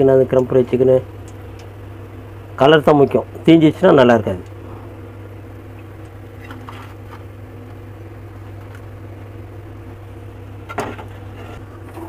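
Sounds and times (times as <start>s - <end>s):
low electrical motor hum: 0.0s - 12.0s.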